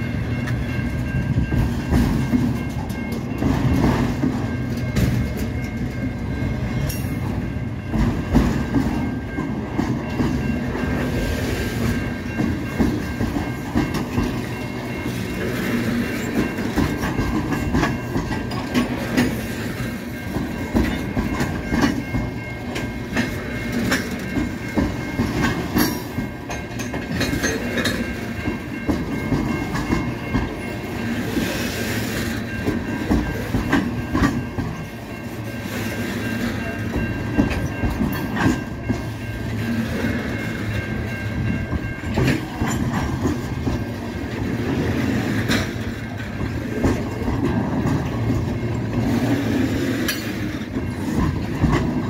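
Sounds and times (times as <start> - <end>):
crossing warning bell ringing: 0.0 - 52.0
freight train rumbling past: 0.0 - 52.0
wheels clicking over rail joints: 0.0 - 52.0.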